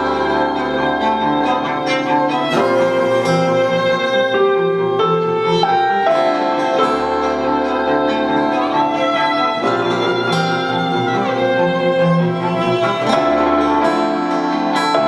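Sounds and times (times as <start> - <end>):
piano: 0.0 - 15.0
violin playing sustained notes: 0.0 - 15.0.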